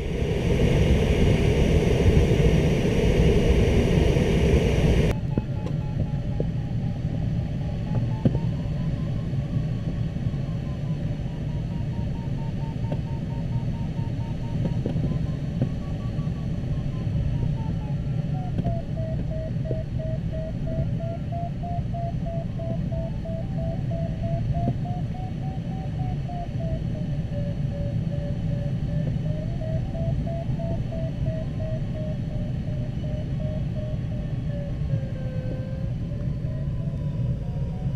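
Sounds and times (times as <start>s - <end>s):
cockpit airflow noise: 0.0s - 37.9s.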